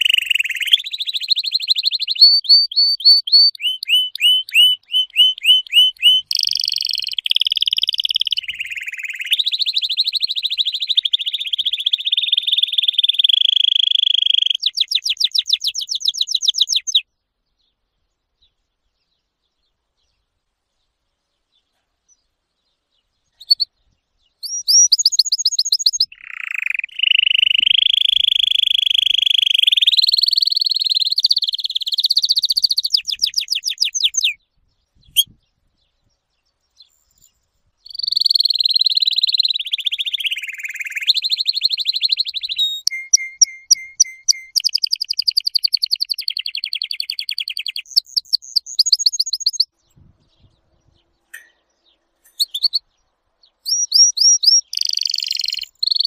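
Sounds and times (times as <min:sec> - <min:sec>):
canary singing trills: 0:00.0 - 0:17.1, 0:23.1 - 0:56.0.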